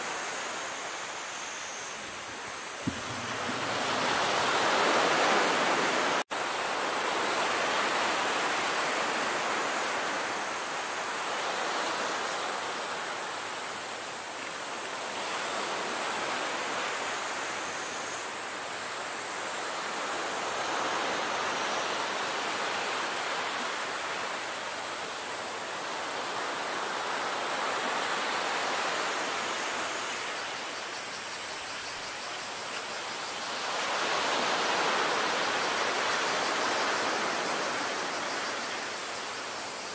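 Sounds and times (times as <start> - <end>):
sea surf: 0.0 - 31.1, 32.5 - 39.9.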